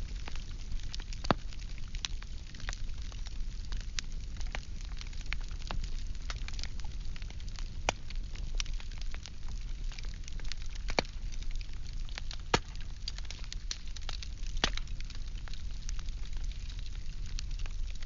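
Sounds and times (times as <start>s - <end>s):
firewood crackling and popping: 0.0s - 18.0s
low fire rumble: 0.0s - 18.0s.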